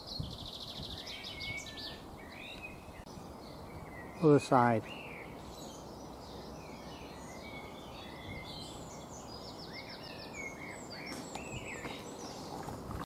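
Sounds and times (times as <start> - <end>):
bird trill: 0.0 - 12.6
small birds chirping and whistling: 0.0 - 12.7.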